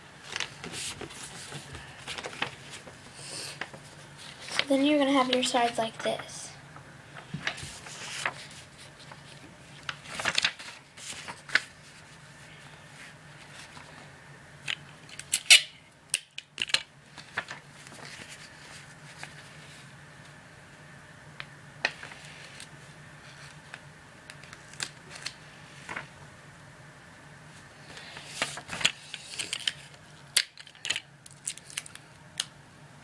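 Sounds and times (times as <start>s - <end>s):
paper rustling and folding: 0.2s - 6.4s, 7.1s - 15.6s, 16.4s - 20.4s, 21.8s - 26.2s, 27.5s - 32.1s.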